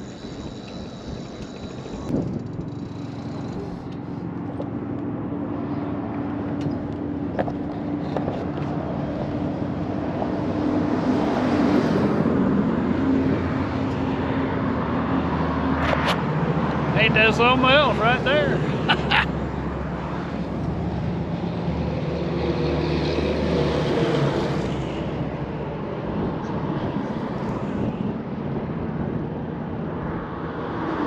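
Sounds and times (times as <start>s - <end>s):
highway traffic: 0.0s - 31.0s.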